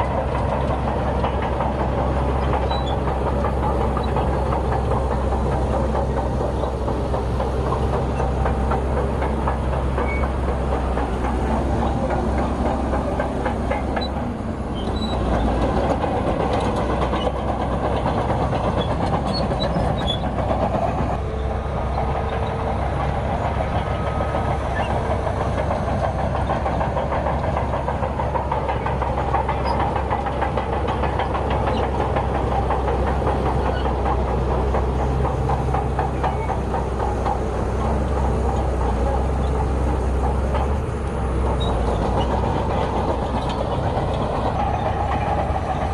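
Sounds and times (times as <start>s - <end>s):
crawler tracks clanking: 0.0s - 45.9s
diesel engine running under load: 0.0s - 45.9s.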